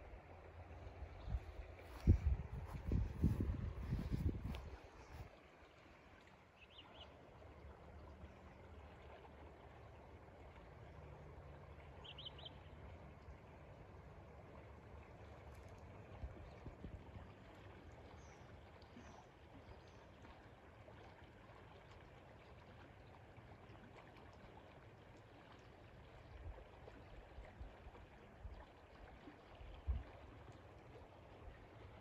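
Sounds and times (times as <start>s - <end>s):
river water flowing: 0.0s - 32.0s.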